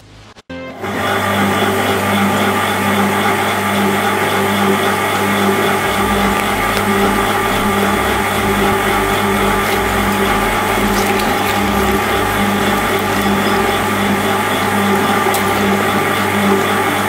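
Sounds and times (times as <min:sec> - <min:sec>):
shredder motor humming: 0:00.8 - 0:17.0.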